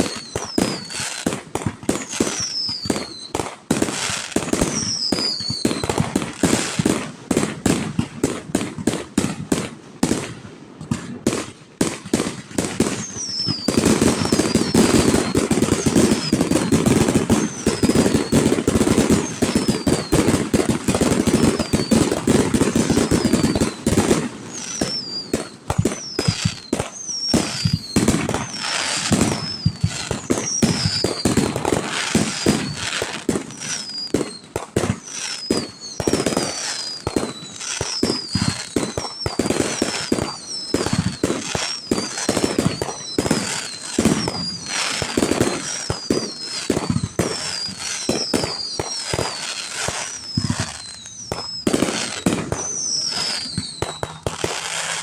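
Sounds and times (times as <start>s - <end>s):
falling firework whistles: 0.0s - 55.0s
fireworks banging and crackling: 0.0s - 55.0s.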